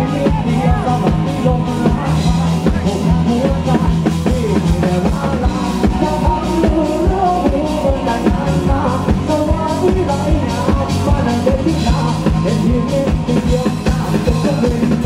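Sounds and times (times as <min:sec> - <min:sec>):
bass guitar: 0:00.0 - 0:15.0
drum kit beat: 0:00.0 - 0:15.0
electric guitar: 0:00.0 - 0:15.0
person singing: 0:00.0 - 0:15.0.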